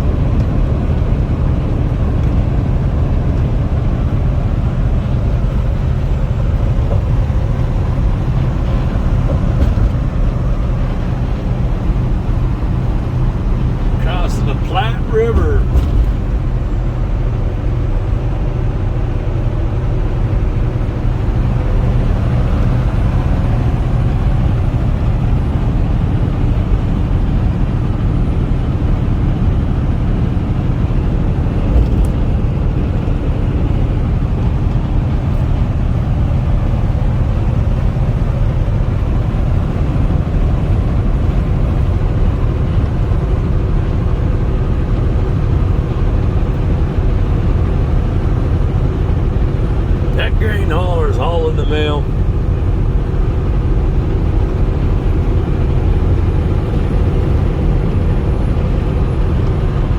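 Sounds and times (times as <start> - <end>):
truck engine and road noise drone: 0.0 - 59.9.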